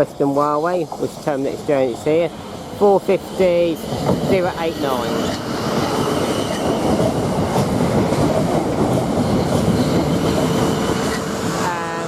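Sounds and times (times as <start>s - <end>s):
train wheel-and-rail rumble: 0.0s - 12.0s.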